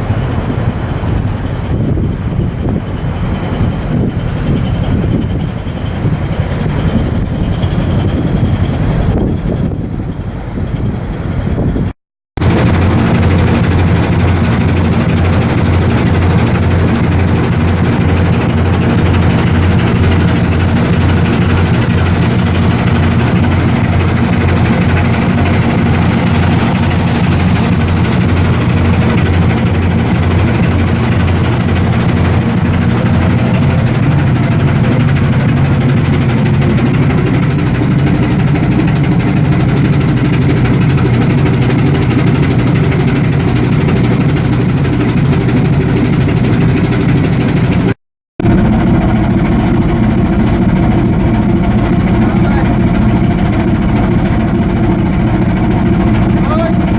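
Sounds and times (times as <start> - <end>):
marine diesel engine running: 0.0 - 56.9.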